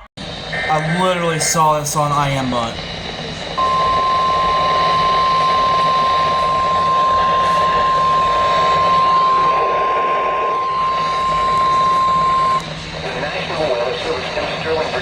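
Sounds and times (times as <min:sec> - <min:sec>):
radio static hiss: 0:00.0 - 0:15.0
steady alarm beep: 0:00.0 - 0:15.0.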